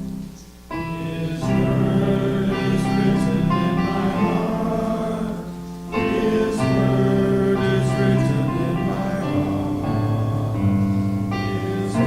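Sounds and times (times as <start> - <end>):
congregation singing a hymn: 0.0 - 12.0
piano accompaniment: 0.0 - 12.0.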